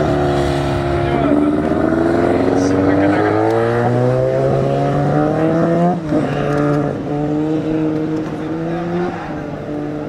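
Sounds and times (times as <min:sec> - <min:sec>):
motorcycle engine accelerating hard: 0:00.0 - 0:10.0.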